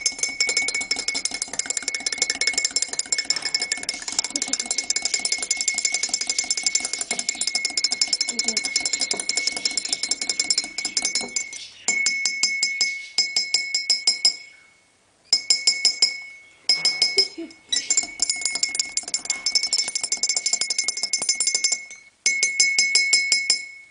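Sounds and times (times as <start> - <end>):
coffee cup clinking: 0.0 - 14.5, 15.3 - 23.8.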